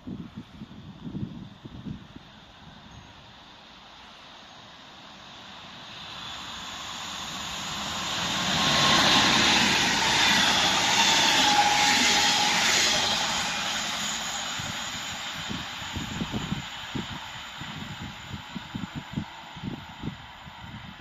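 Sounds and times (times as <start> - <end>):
faint locomotive whine: 0.0 - 21.0
locomotive wheel and rail noise: 0.0 - 21.0.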